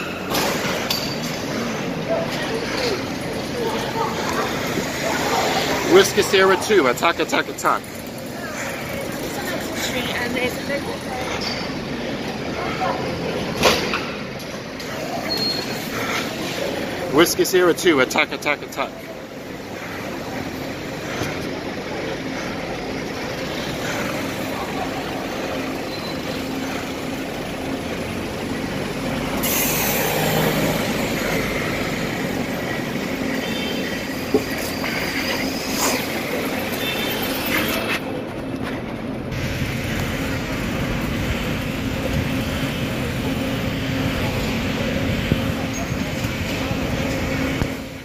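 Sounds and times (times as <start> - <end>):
street traffic noise: 0.0 - 48.0.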